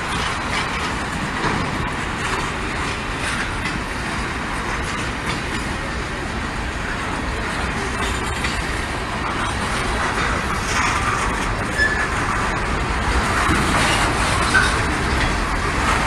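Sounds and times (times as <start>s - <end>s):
freight train wheels on rails: 0.0s - 16.0s.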